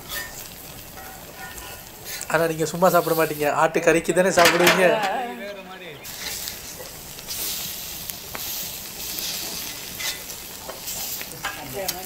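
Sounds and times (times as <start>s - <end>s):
meat sizzling in oil: 0.0s - 3.8s, 6.0s - 12.0s
oil crackles: 0.0s - 5.3s, 6.0s - 12.0s.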